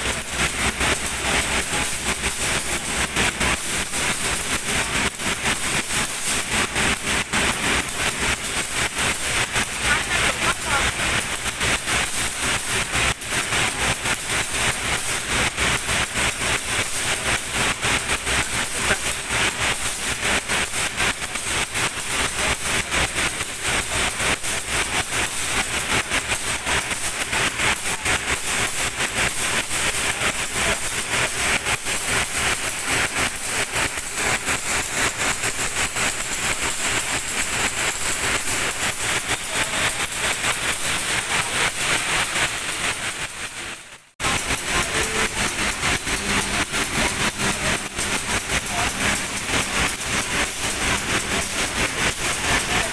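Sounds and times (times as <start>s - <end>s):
train rushing noise: 0.0s - 52.9s
wheels clattering on rails: 0.0s - 52.9s.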